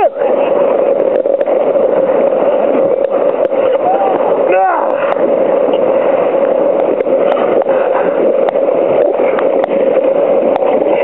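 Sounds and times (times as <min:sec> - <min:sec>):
constant hum: 0:00.0 - 0:11.0
rushing water: 0:00.0 - 0:11.0.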